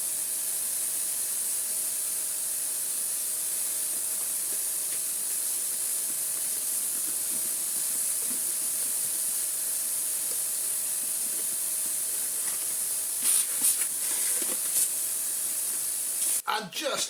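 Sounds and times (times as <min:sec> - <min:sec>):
vacuum cleaner running: 0:00.0 - 0:16.4.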